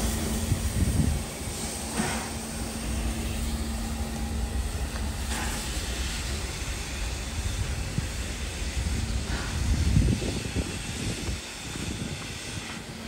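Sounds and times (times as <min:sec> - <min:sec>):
steam bursts: 0:00.0 - 0:13.0
steam locomotive rumbling: 0:00.0 - 0:13.0.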